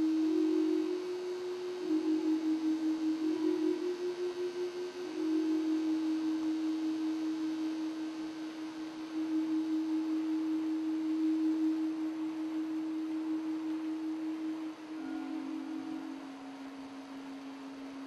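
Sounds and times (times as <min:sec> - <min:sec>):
steady drone tone: 0:00.0 - 0:18.0.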